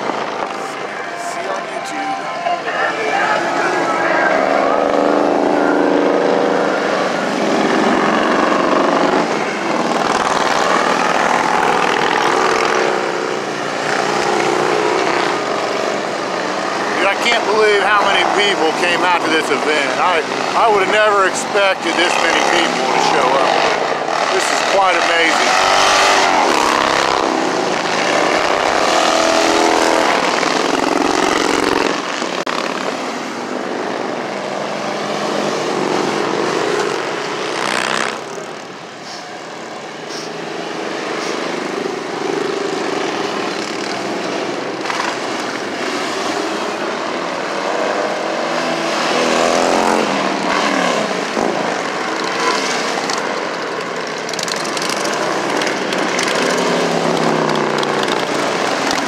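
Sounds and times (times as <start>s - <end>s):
motorcycles and cars passing: 0.0s - 59.0s.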